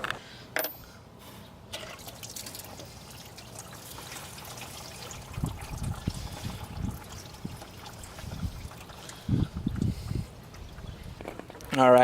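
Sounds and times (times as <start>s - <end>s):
coolant trickling and dripping: 1.7s - 12.0s.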